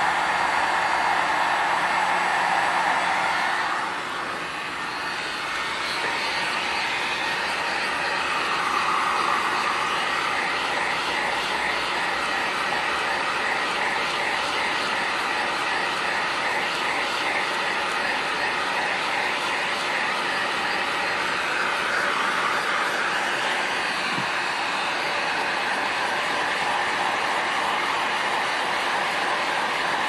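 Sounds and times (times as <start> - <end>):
heat gun fan blowing: 0.0 - 30.0.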